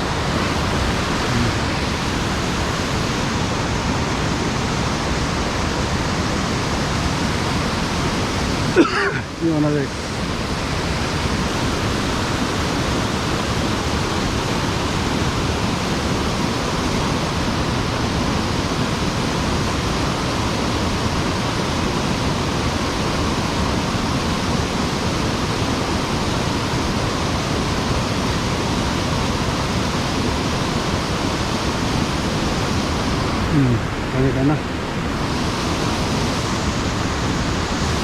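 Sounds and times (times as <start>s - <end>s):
stream water rushing: 0.0s - 38.0s.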